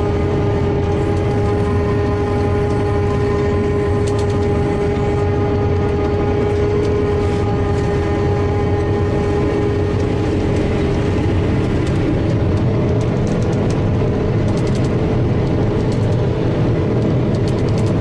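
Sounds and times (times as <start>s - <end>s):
forage harvester engine drone: 0.0s - 18.0s
steady machine whine: 0.0s - 18.0s.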